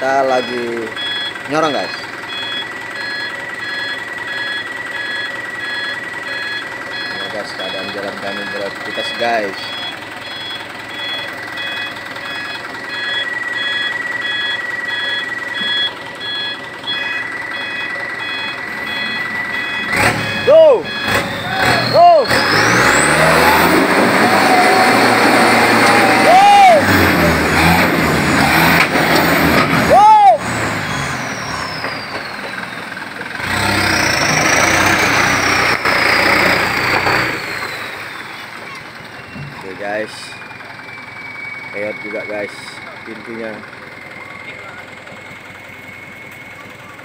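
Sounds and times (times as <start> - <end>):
truck engine running: 0.0 - 47.0
truck reversing alarm beeps: 0.0 - 47.0.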